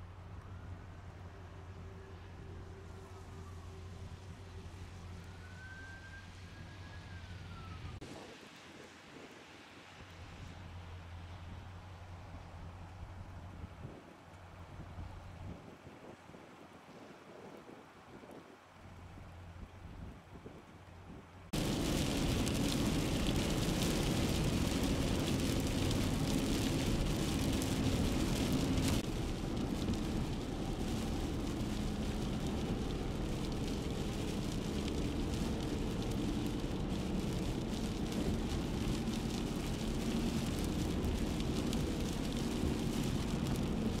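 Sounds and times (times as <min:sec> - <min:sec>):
rain and sleet pelting a car: 0:00.0 - 0:44.0
tyres on a wet road: 0:00.0 - 0:44.0.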